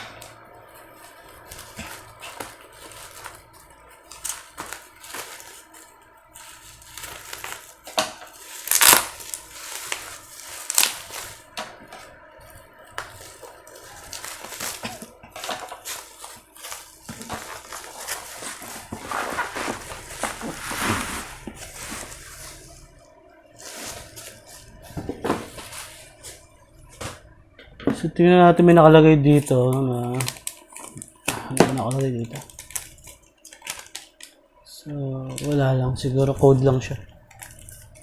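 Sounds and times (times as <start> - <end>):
bubble wrap crinkling: 0.0 - 27.5, 29.3 - 34.4, 35.2 - 38.0.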